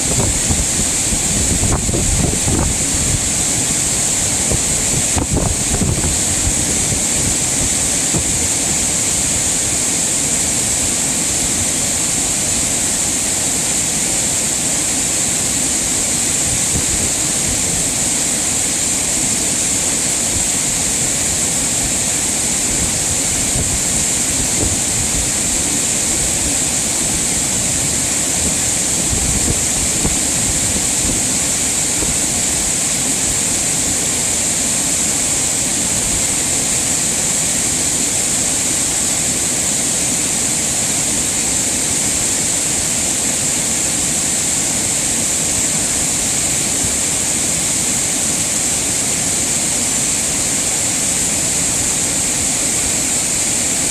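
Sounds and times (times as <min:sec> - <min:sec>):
stream water rushing over rocks: 0:00.0 - 0:53.9.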